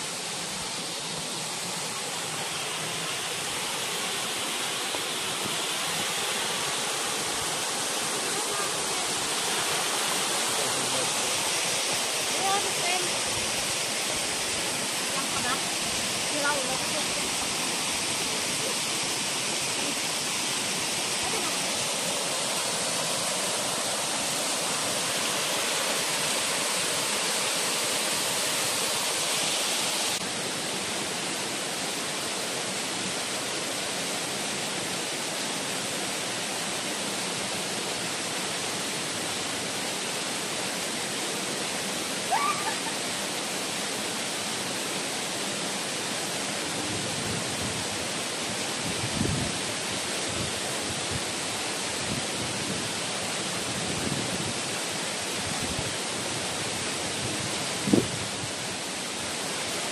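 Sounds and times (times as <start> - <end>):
waterfalls pouring into a pool: 0.0 - 59.9.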